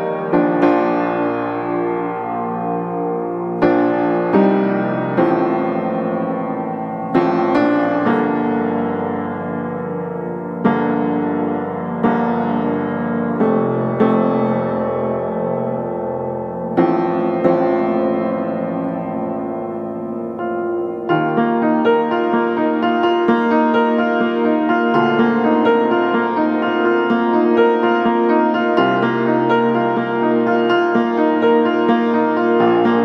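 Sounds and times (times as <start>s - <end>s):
slow piano notes and chords: 0.0s - 33.0s.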